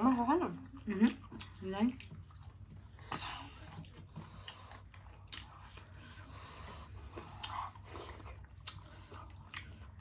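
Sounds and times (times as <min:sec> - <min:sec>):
person chewing food: 0:00.6 - 0:10.0.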